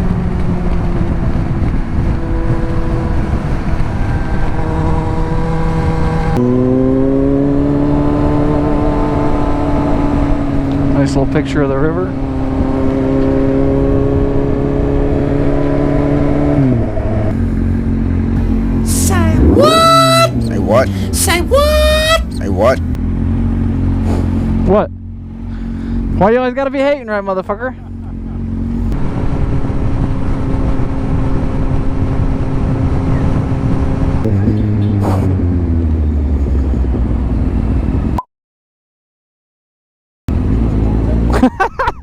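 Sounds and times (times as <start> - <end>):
motorcycle engine cruising: 0.0 - 38.2, 40.3 - 41.6
wind and road noise: 0.0 - 38.2, 40.3 - 42.0.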